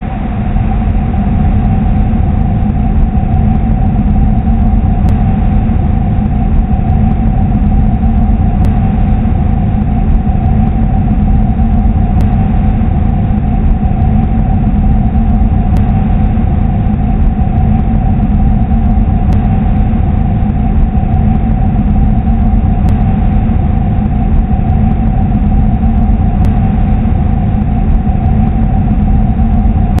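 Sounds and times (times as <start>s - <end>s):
droning rumble with held tones: 0.0s - 30.0s.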